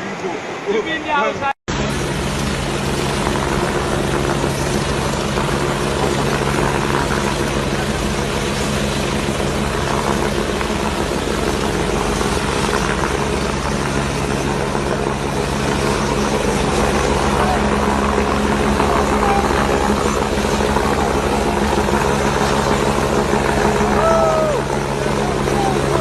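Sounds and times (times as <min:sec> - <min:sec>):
engine droning hum: 0:00.0 - 0:26.0.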